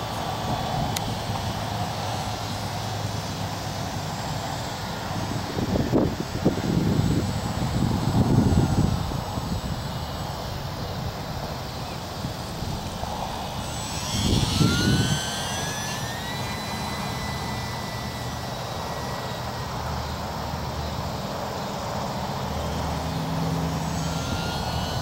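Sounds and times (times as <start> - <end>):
electric motor and propeller whine: 0.0 - 25.0.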